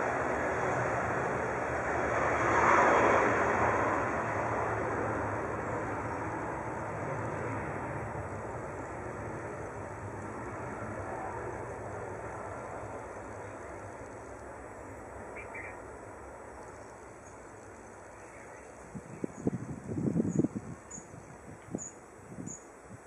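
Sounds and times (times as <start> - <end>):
jet engines roaring: 0.0 - 19.7.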